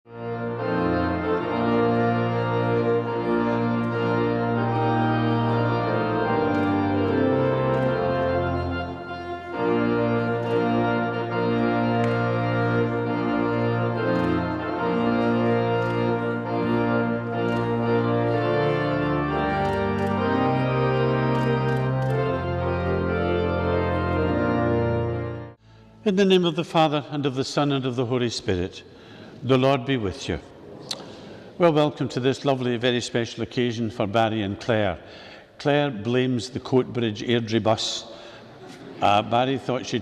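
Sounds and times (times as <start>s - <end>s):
organ playing slow chords: 0.1s - 33.0s.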